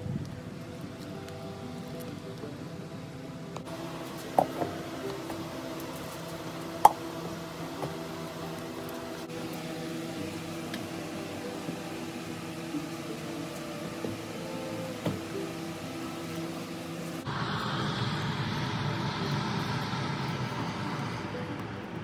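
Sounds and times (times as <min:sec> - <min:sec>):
soft ambient music: 0:00.0 - 0:22.0.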